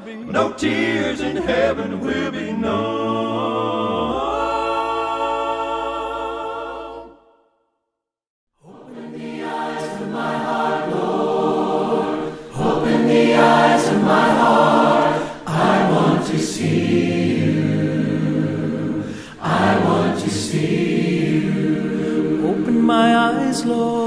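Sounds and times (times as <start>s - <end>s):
choir singing: 0.0s - 7.5s, 8.6s - 24.0s.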